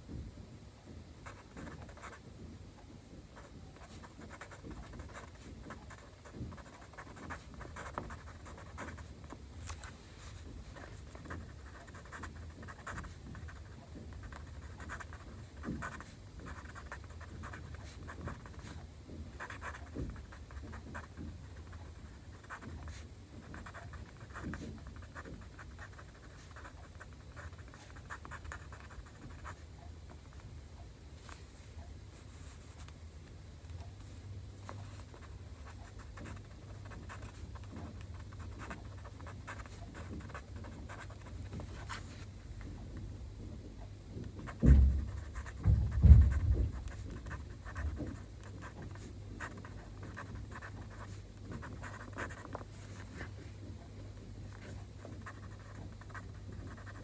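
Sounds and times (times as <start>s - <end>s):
faint low hum: 0.0s - 57.0s
pen scratching on paper: 1.2s - 2.2s, 3.4s - 29.6s, 34.6s - 42.0s, 44.4s - 53.4s, 54.5s - 57.0s.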